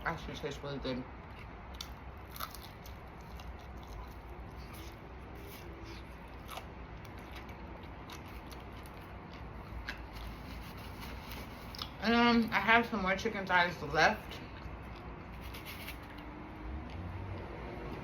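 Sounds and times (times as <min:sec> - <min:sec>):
person chewing fried chicken: 0:01.1 - 0:12.0, 0:14.3 - 0:18.0.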